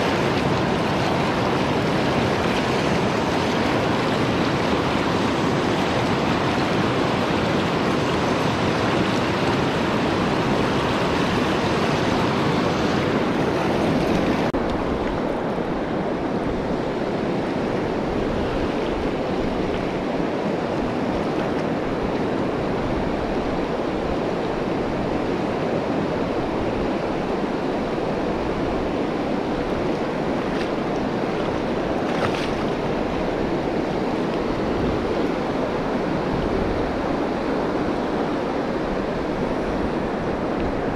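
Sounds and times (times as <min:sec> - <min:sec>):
river rushing over stones: 0:00.0 - 0:40.9.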